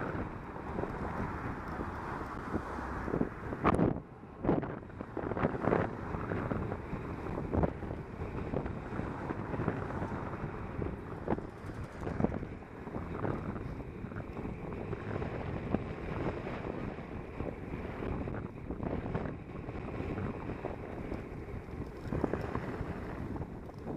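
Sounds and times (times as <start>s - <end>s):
road rumble: 0.0s - 23.9s
wind buffeting microphone: 0.0s - 23.9s.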